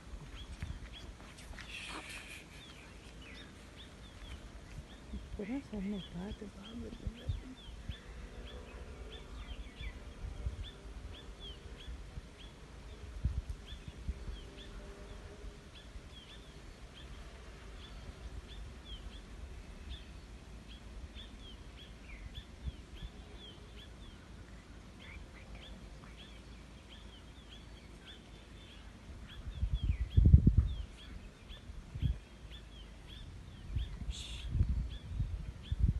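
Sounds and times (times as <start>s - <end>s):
low rumble on microphone: 0.0s - 35.9s
small birds chirping: 0.0s - 35.9s.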